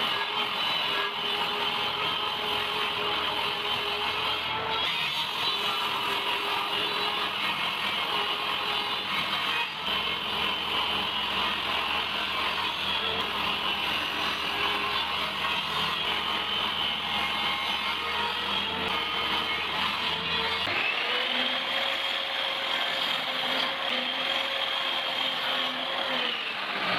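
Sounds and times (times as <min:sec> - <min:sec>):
power tool working wood: 0:00.0 - 0:26.9.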